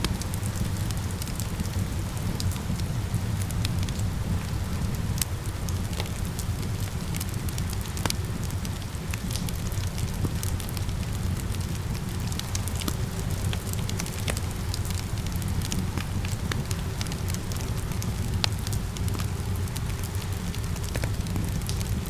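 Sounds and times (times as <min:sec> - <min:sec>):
rain falling: 0:00.0 - 0:22.0
wood fire crackling: 0:00.0 - 0:22.0.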